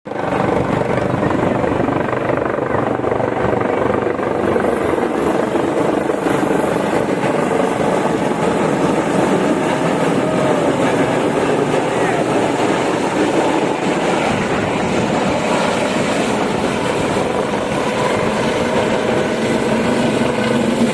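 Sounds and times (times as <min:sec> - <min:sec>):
helicopter rotor and engine: 0:00.0 - 0:20.9.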